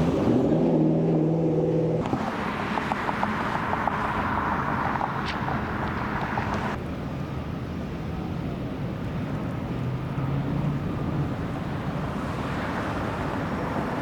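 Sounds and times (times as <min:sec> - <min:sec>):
vehicle hiss and rumble: 0:02.0 - 0:14.0.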